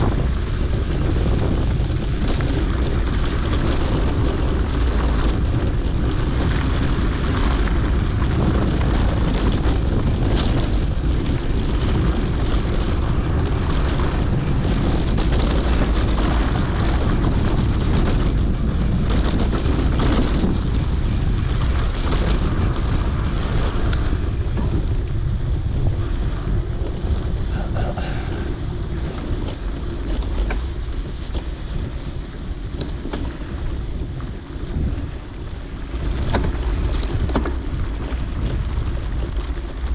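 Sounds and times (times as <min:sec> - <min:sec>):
bike rolling on dirt trail: 0:00.0 - 0:39.9
wind buffeting microphone: 0:00.0 - 0:39.9.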